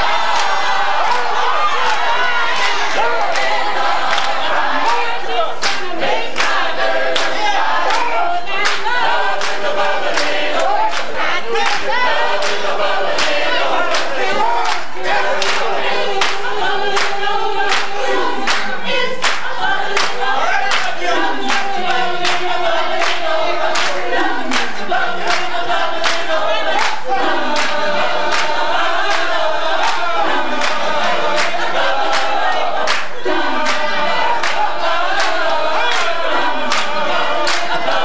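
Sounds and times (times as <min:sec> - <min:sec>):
gospel choir singing: 0:00.0 - 0:38.0
hand claps: 0:00.0 - 0:38.0.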